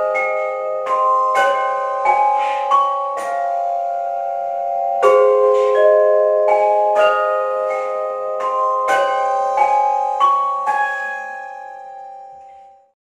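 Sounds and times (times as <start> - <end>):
vibraphones playing chords: 0.0 - 12.9.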